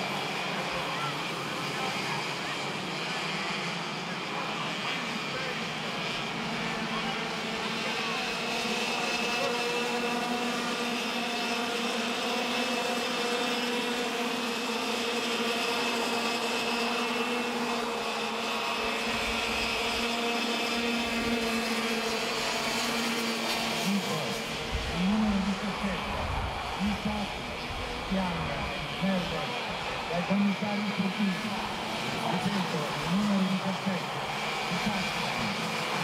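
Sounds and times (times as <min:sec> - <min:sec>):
kart engines at high revs: 0:00.0 - 0:36.0.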